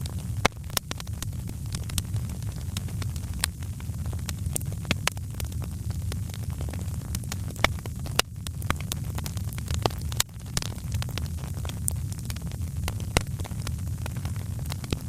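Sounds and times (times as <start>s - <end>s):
steady low rumble: 0.0s - 15.0s
wood fire crackling and popping: 0.0s - 15.0s.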